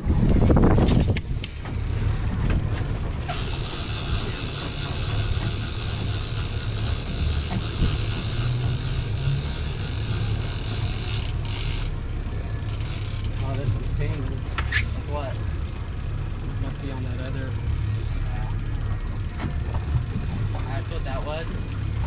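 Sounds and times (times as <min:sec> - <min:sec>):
boat engine low rumble: 0:00.0 - 0:22.0
water noise: 0:00.0 - 0:22.0
wind: 0:00.0 - 0:22.0.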